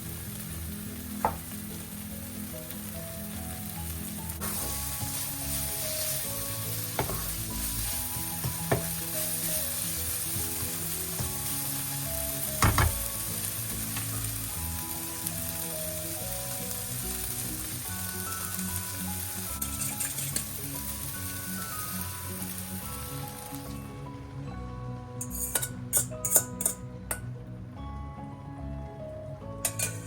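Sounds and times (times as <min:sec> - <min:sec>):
food sizzling in a pan: 0:00.0 - 0:24.2, 0:25.2 - 0:26.8, 0:29.6 - 0:30.0.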